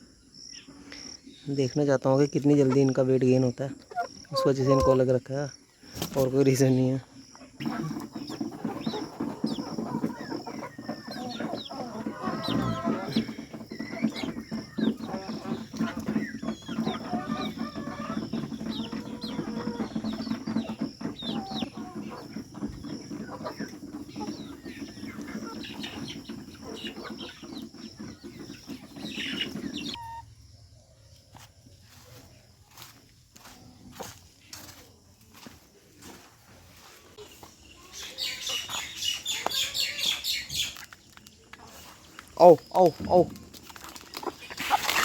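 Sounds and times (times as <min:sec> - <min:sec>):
chickens clucking and calling: 0:00.0 - 0:45.0.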